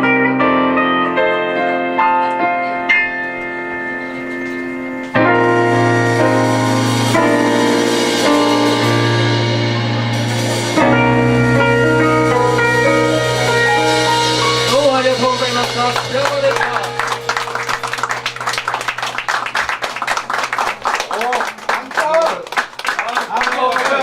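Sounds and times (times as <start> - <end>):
picked guitar notes: 0.0 - 21.0
live band playing: 0.0 - 22.9.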